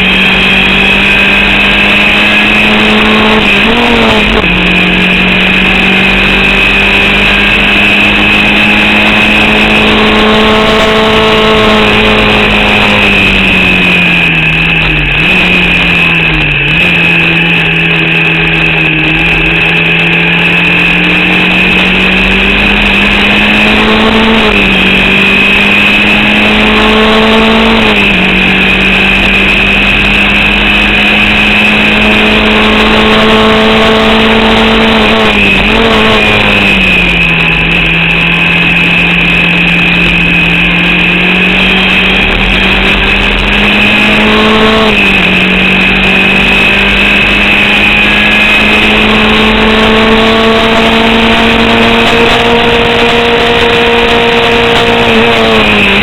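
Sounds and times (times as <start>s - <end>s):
race car engine at high revs: 0.0s - 56.0s
steady high whine: 0.0s - 56.0s.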